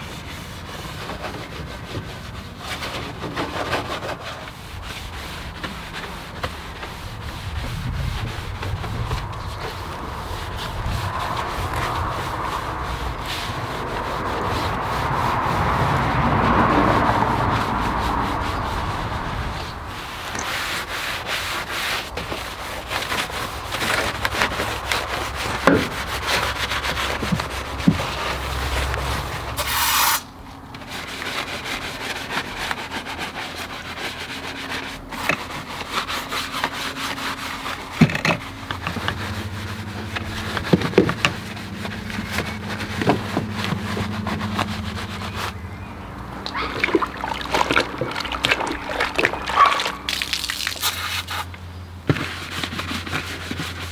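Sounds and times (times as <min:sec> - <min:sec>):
brush scrubbing plastic: 0:00.0 - 0:45.7, 0:46.3 - 0:53.9.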